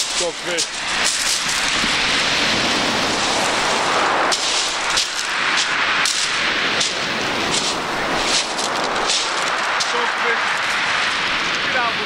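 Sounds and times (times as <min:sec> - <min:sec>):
footsteps crunching on pebbles: 0:00.0 - 0:10.8
surf washing on stones: 0:00.0 - 0:12.0.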